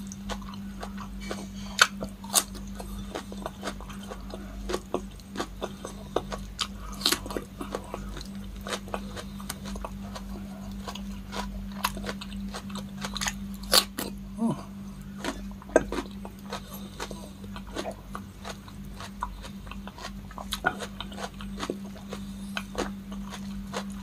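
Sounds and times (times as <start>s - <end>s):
crunchy chewing: 0.0s - 24.0s
steady low hum: 0.0s - 24.0s.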